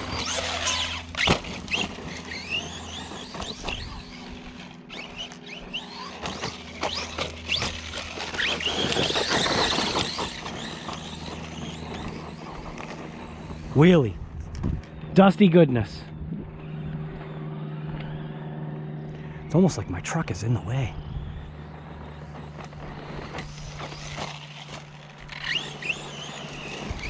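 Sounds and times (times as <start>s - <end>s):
electric motor whining: 0.0s - 27.0s
tyres on dirt: 0.0s - 27.0s.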